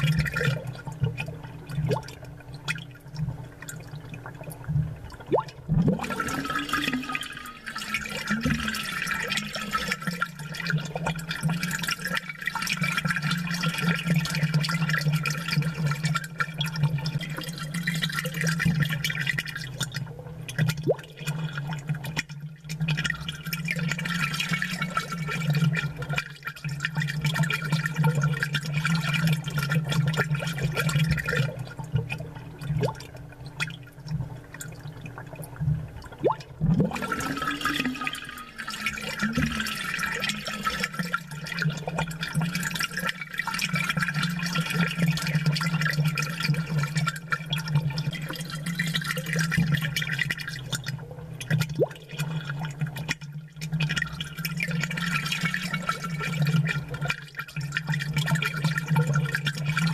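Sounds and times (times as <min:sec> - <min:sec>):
aquarium bubbles gurgling: 0:00.0 - 0:59.9.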